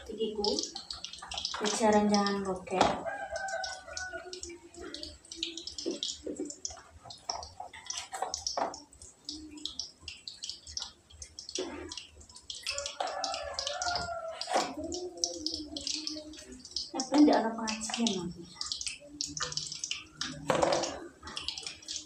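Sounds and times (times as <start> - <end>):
water dripping and splashing: 0.0 - 22.0.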